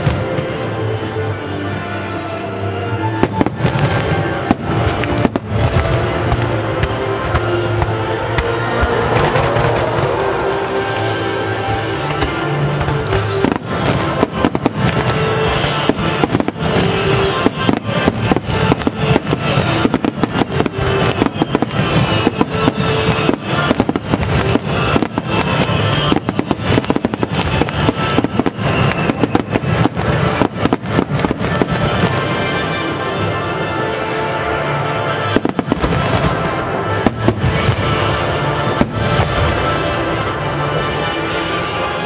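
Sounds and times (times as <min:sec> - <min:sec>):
music playing: 0:00.0 - 0:42.0.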